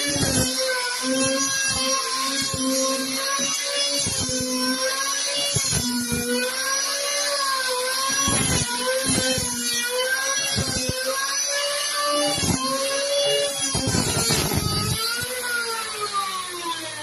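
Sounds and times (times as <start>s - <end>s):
palm sander motor whine: 0.0s - 17.0s.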